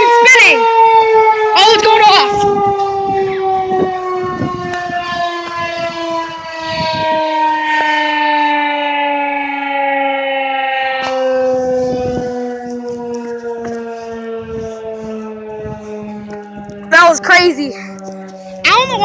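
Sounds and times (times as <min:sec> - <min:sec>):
tornado siren wailing: 0:00.0 - 0:19.0.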